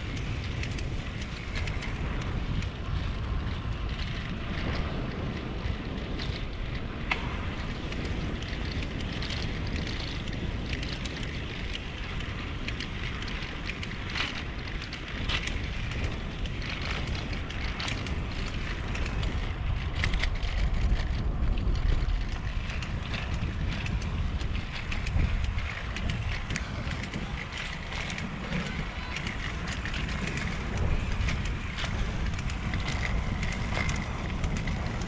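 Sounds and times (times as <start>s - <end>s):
tyres rolling on concrete: 0.0s - 35.0s
wind buffeting microphone: 0.0s - 35.0s.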